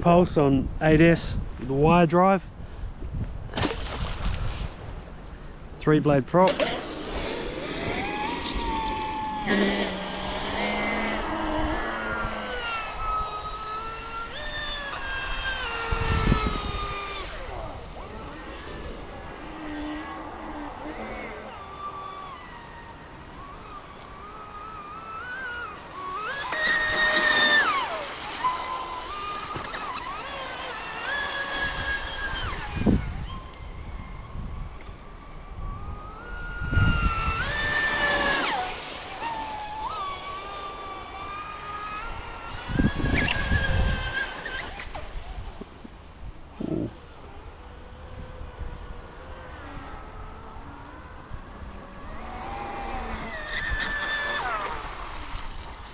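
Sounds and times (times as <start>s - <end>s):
low rumble of hull and water: 0.0s - 55.9s
rc boat motor whine: 4.6s - 55.9s.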